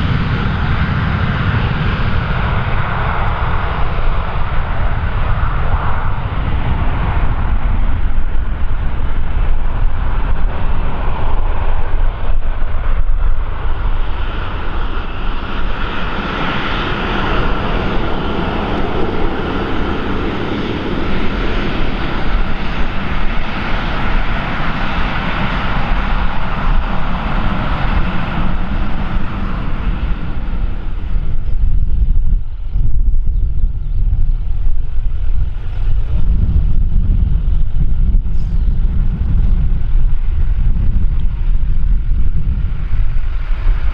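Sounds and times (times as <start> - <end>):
airliner engines roaring: 0.0 - 43.9
wind rumble on microphone: 0.0 - 43.9.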